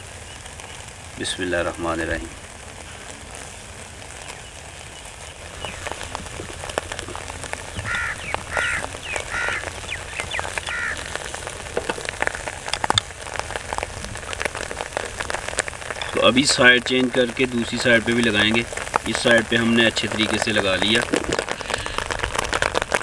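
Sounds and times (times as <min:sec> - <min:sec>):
charcoal grill crackling and sizzling: 0:00.0 - 0:23.0.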